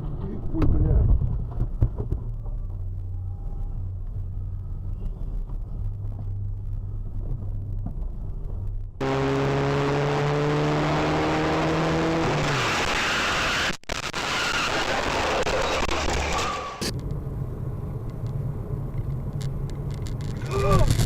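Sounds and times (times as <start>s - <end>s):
car engine accelerating: 0.0s - 20.4s
road noise: 0.0s - 21.0s.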